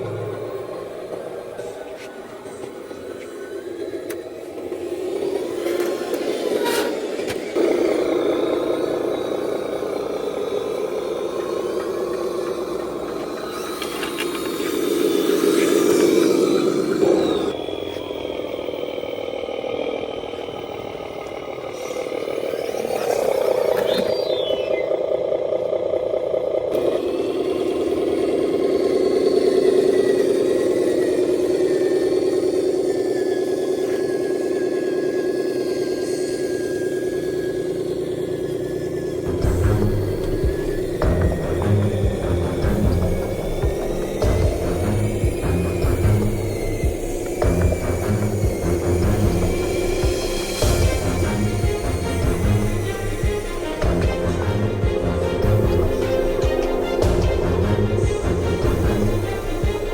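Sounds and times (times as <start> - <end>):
falling whine: 0.0 - 59.9
toy truck motor drone: 0.0 - 59.9.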